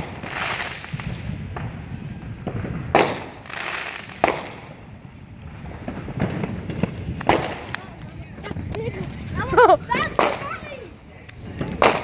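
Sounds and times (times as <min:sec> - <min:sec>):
small firework pops: 0:00.0 - 0:09.2, 0:10.0 - 0:12.0
firework bangs: 0:00.0 - 0:12.0.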